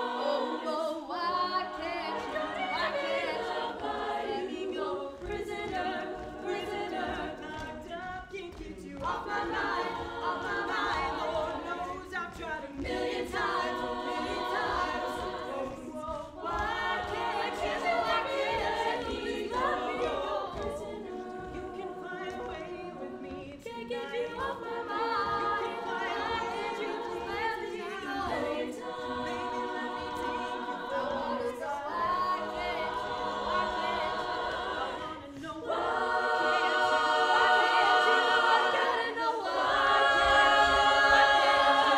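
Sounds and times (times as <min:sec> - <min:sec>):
women singing a cappella: 0:00.0 - 0:41.9.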